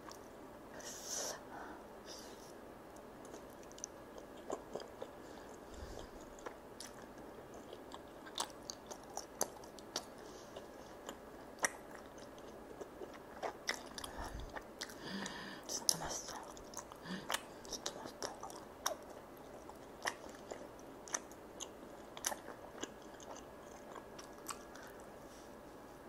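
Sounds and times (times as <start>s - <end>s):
person chewing food: 2.9s - 25.2s.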